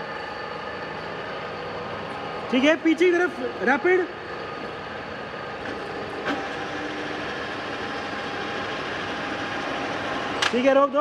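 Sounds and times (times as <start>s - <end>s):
milling machine running: 0.0s - 10.5s.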